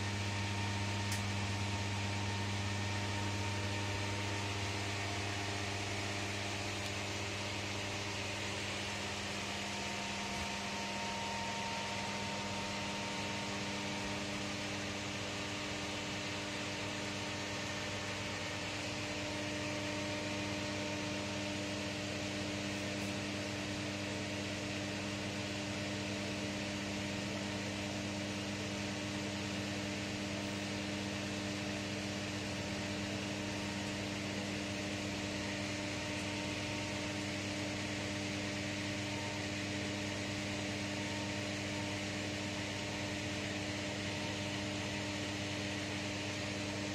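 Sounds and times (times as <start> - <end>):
climate control fan hum: 0.0 - 46.9.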